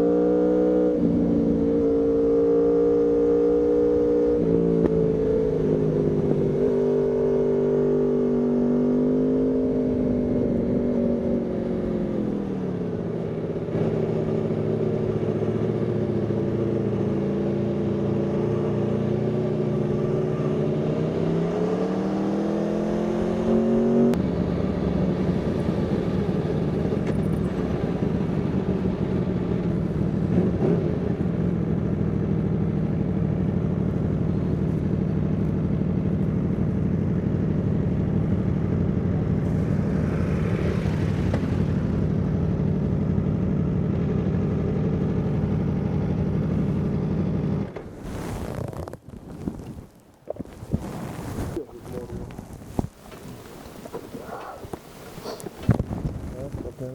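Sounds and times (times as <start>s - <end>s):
motorcycle engine revving: 0.0s - 49.1s.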